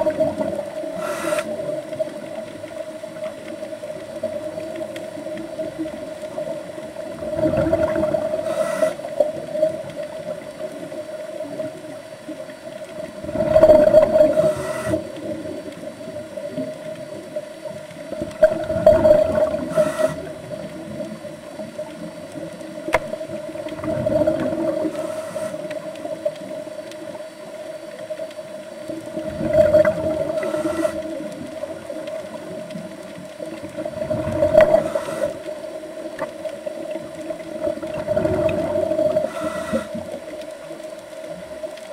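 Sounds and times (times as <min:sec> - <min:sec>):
exhaled bubbles underwater: 0:00.0 - 0:41.9.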